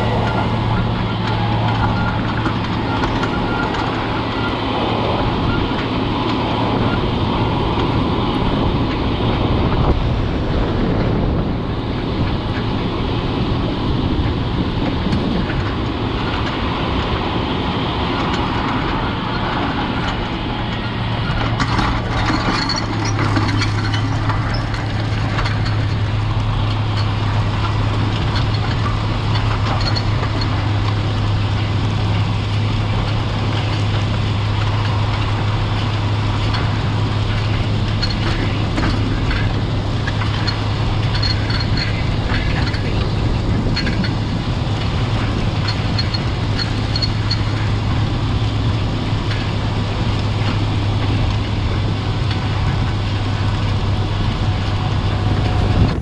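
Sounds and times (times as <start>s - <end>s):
diesel tractor engine under load: 0.0s - 56.0s.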